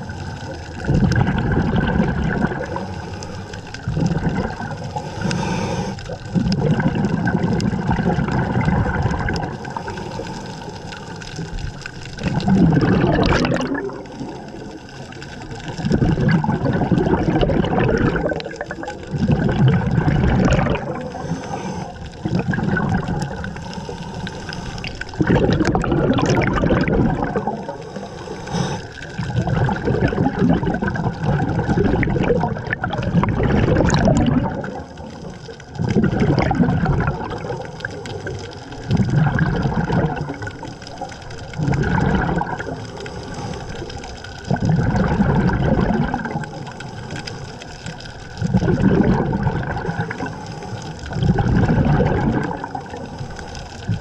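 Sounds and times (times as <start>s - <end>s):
exhaled bubbles gurgling underwater: 0.0s - 54.0s.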